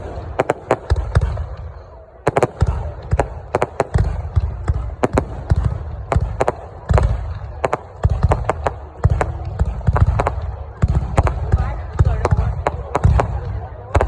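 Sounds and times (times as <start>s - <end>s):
fireworks deep booms: 0.0s - 14.0s
fireworks sharp bangs: 0.0s - 14.0s.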